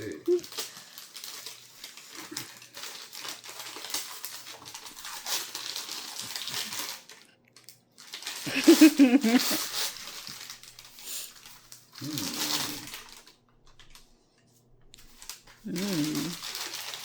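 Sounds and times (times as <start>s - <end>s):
packing paper rustling: 0.0s - 14.1s, 14.9s - 17.0s.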